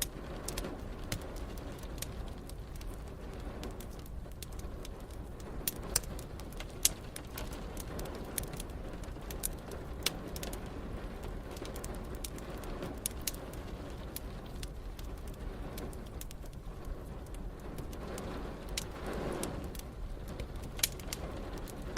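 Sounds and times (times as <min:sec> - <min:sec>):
steady rain: 0:00.0 - 0:21.9
wood fire crackling: 0:00.0 - 0:21.9.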